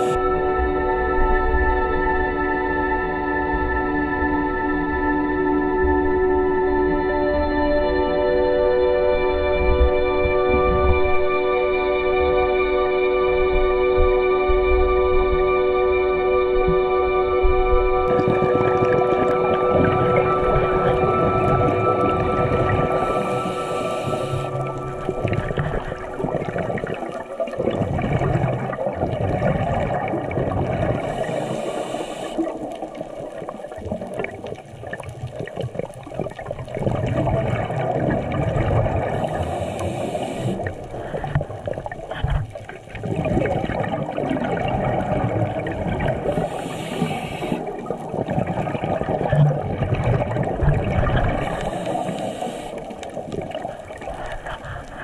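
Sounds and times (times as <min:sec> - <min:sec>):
underwater bubbling and rushing: 0:00.0 - 0:55.0.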